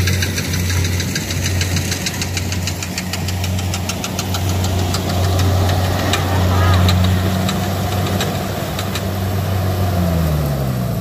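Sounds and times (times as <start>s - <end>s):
rapid rhythmic machine clatter: 0.0s - 9.2s
combine harvester engine running: 0.0s - 11.0s.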